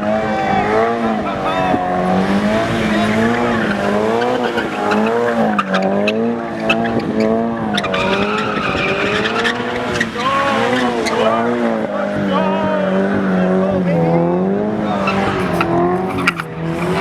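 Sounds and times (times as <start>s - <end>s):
car engine revving: 0.0s - 17.0s
tires screeching: 0.0s - 17.0s.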